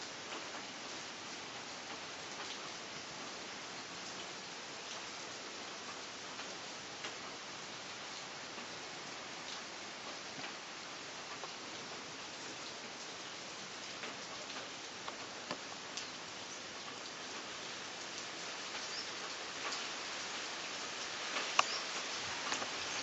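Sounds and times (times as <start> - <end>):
steady rain with drop ticks: 0.0 - 23.0.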